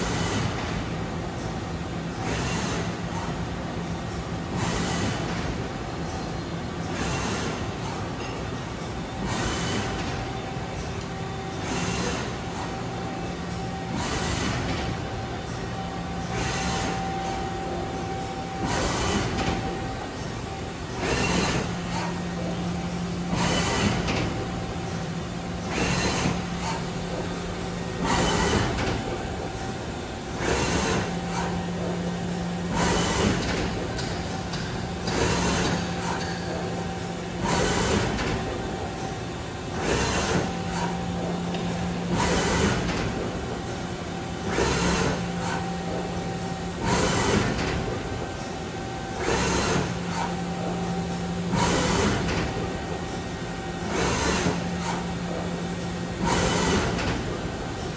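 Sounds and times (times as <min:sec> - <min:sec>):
machine humming: 0:08.4 - 0:57.9.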